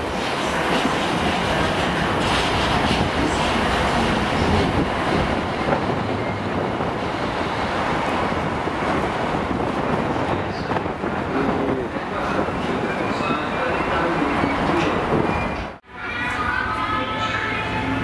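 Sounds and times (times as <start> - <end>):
freight train wheels on rails: 0.0 - 15.8.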